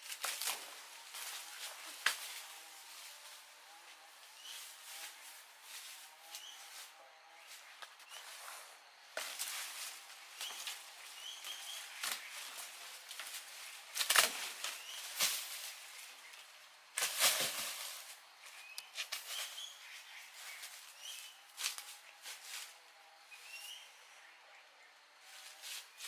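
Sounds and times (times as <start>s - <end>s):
small birds chirping: 0.0s - 17.0s, 17.6s - 26.0s.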